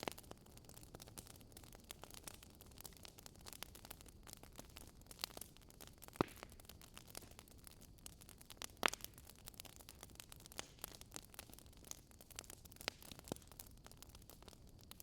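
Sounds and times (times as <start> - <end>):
campfire crackling: 0.0 - 15.0
faint steady hiss: 0.0 - 15.0.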